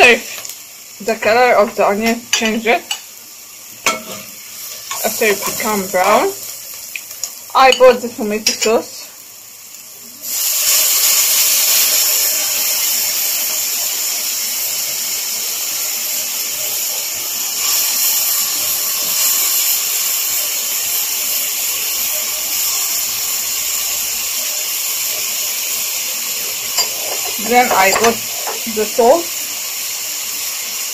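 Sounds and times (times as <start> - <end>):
sauce sizzling in a pan: 0.0 - 30.9.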